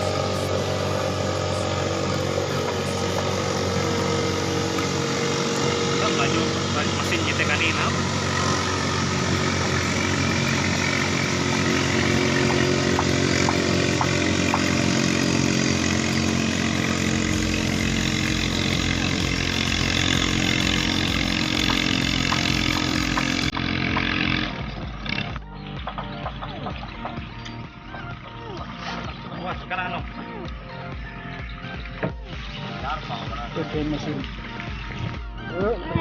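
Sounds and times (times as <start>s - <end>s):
boat engine buzzing: 0.0s - 36.0s.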